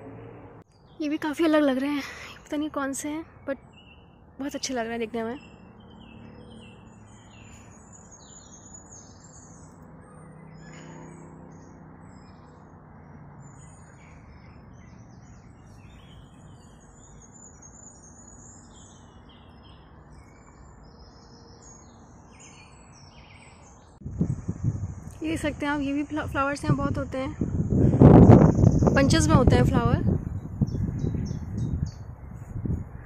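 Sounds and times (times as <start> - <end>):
small birds chirping: 0.6 - 33.0.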